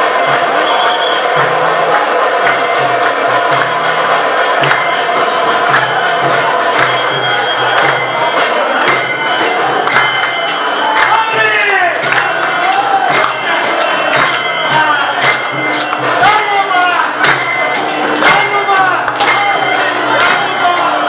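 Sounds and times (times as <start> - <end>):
hand cymbals struck: 0.0 - 21.0.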